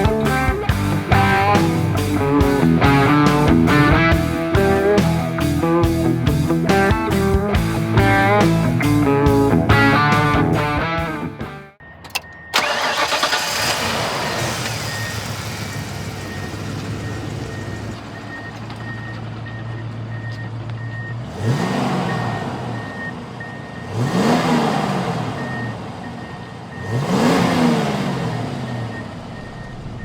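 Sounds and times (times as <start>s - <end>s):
car engine idling and revving: 0.0s - 11.0s, 11.8s - 30.0s.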